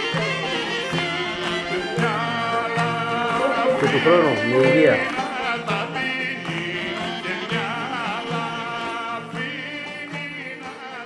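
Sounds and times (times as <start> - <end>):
background music with singing melody: 0.0 - 11.0.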